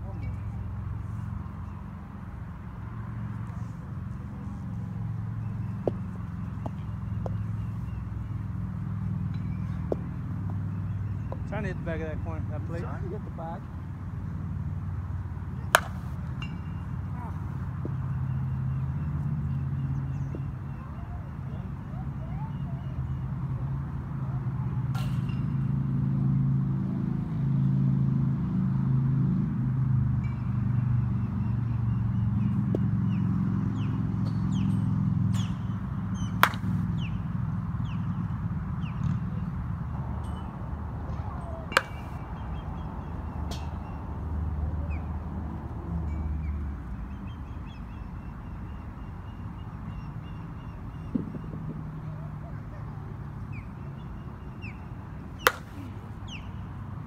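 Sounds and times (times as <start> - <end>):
low engine-like drone: 0.0 - 57.0.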